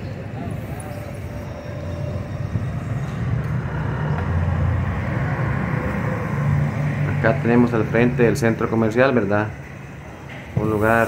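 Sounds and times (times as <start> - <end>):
cars and scooters engines running: 0.0 - 11.0.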